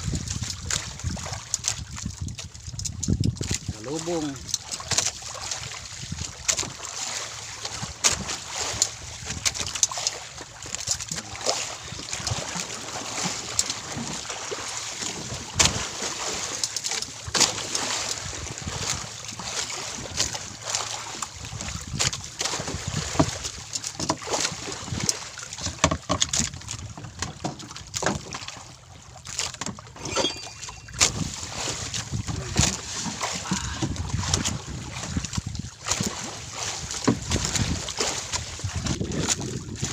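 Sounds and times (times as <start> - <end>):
knocks and clicks on boat: 0.0 - 39.9
wind and water rushing: 0.0 - 39.9.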